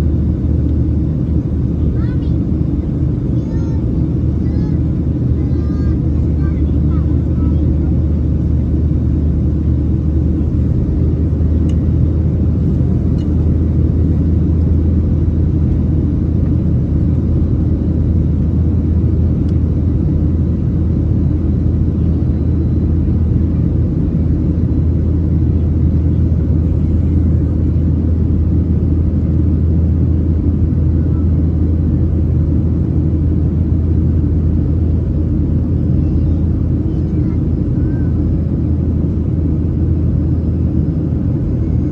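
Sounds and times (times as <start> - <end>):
airplane cabin engine drone: 0.0 - 41.9.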